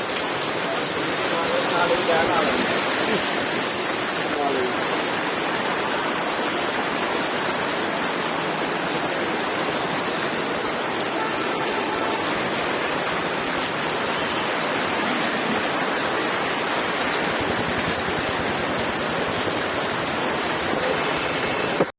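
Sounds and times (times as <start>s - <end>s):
heavy rain: 0.0s - 21.9s.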